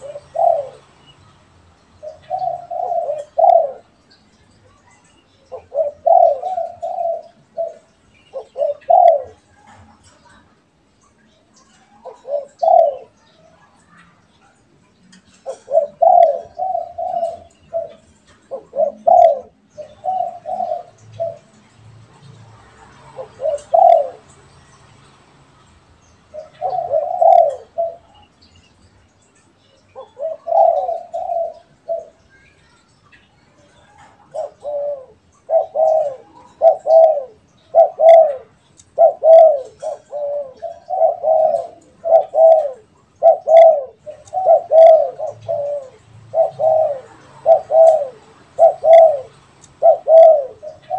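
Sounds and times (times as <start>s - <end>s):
doves cooing: 0.0s - 1.1s, 2.0s - 4.1s, 4.8s - 10.6s, 11.6s - 24.4s, 26.3s - 28.4s, 29.9s - 32.5s, 33.5s - 50.9s.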